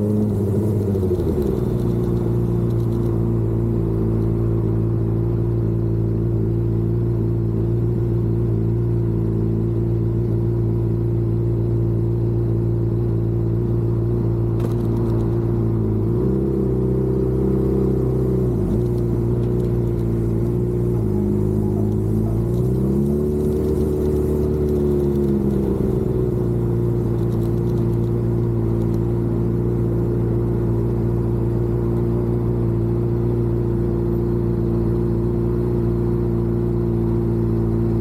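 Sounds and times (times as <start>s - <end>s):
vehicle engine cruising: 0.0s - 38.0s.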